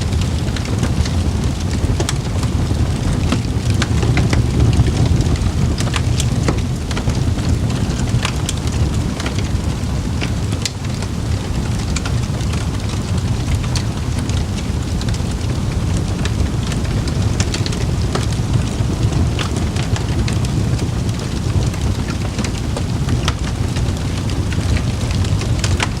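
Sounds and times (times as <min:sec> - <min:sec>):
campfire crackling and popping: 0:00.0 - 0:26.0
low rumble of flames: 0:00.0 - 0:26.0.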